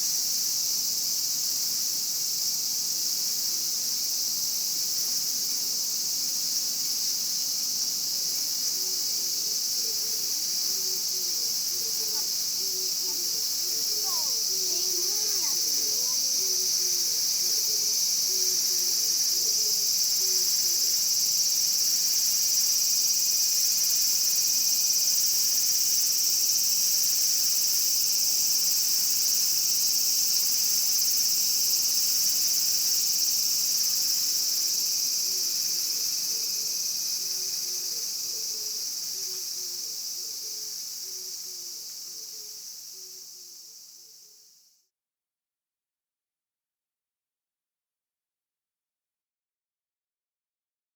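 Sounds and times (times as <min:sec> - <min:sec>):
cicadas buzzing: 0:00.0 - 0:44.7.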